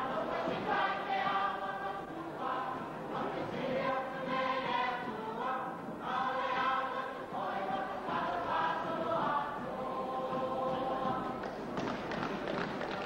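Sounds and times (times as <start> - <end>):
church choir singing: 0.0 - 11.7.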